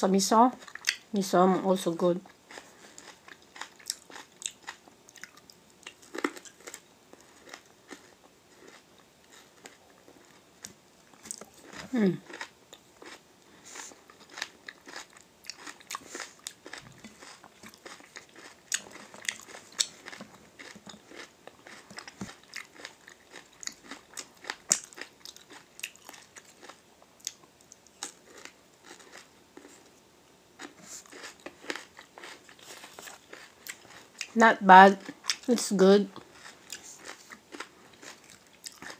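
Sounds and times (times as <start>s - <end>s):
person chewing crunchy food: 0.6s - 1.1s, 2.2s - 29.9s, 30.6s - 38.9s.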